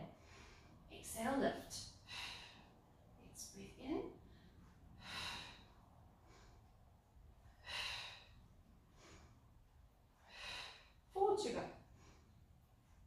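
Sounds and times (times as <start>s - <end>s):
woman breathing: 0.0s - 3.5s, 4.2s - 13.0s.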